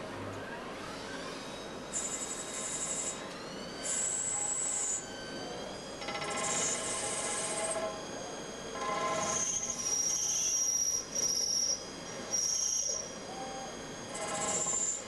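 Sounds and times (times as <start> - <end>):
lathe cutting metal squeal: 1.3 - 15.0.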